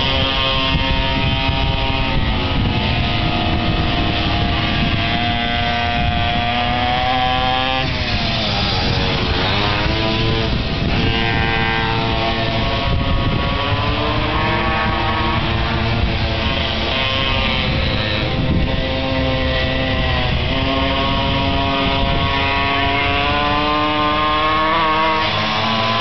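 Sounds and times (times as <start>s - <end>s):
small two-stroke engines racing past: 0.0s - 26.0s.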